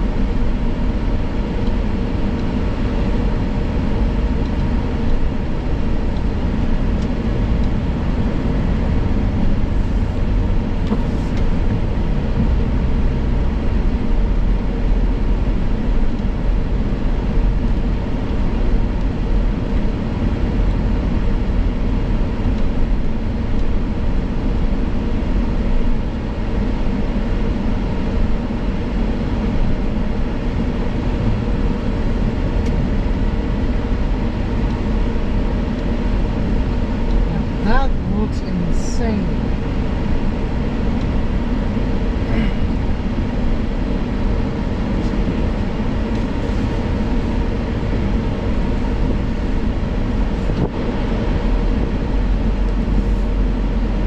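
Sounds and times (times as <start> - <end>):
car rumble inside cabin: 0.0 - 54.0.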